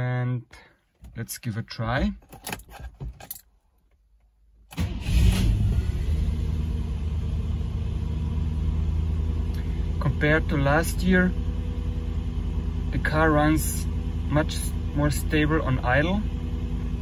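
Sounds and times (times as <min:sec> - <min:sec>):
car engine starting and idling: 0:02.0 - 0:17.0.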